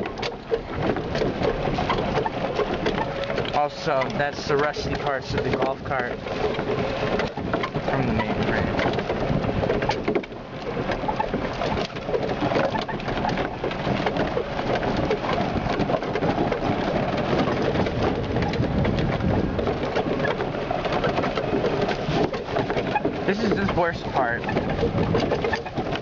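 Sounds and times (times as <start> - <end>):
golf cart driving over rough ground: 0.0 - 26.0.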